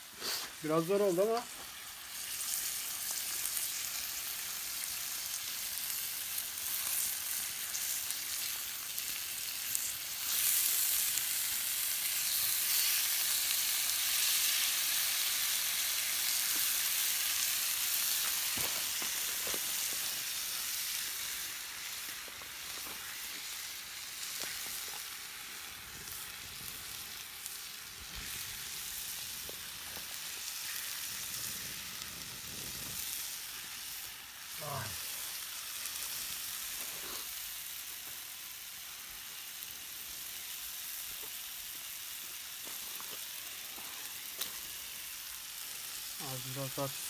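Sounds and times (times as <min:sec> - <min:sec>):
meat sizzling in a pan: 0:00.0 - 0:47.0.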